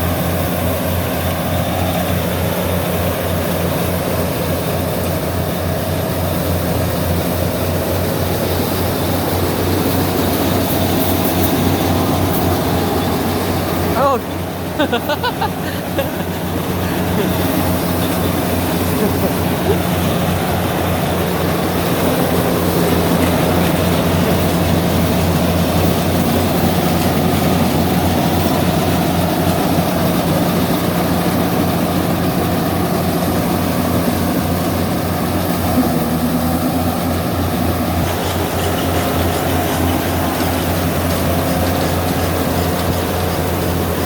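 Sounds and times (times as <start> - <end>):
combine harvester engine drone: 0.0 - 44.0.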